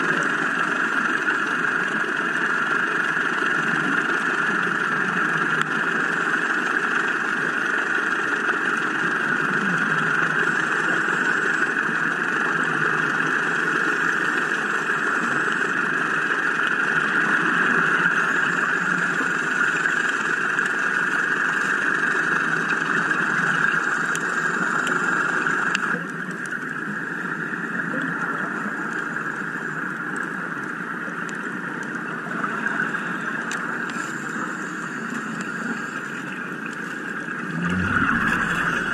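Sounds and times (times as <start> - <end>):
engine drone heard underwater: 0.0 - 38.9.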